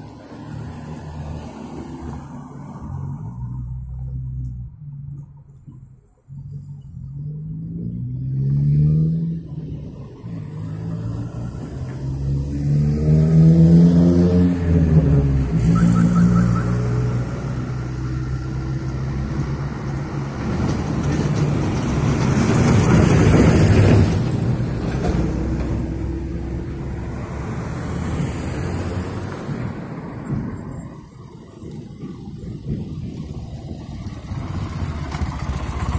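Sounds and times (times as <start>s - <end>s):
cars driving past: 0.0s - 35.9s
truck driving past: 6.2s - 35.9s.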